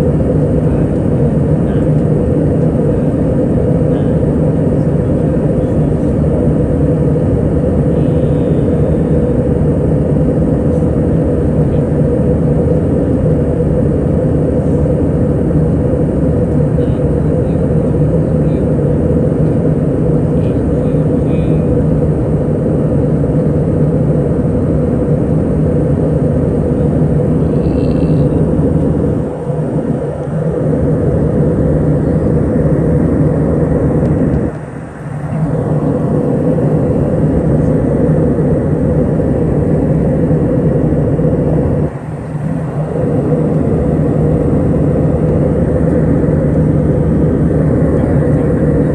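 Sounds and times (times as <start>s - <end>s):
airplane cabin engine drone: 0.0s - 48.9s
low hum: 0.0s - 48.9s.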